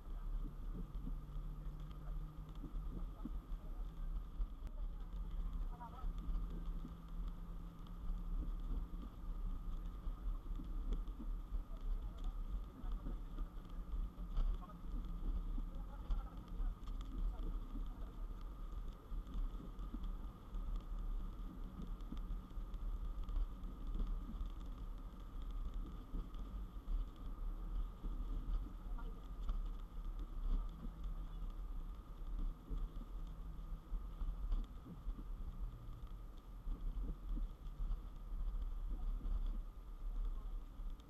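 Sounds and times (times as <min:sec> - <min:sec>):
car driving on wet highway: 0:00.0 - 0:41.0.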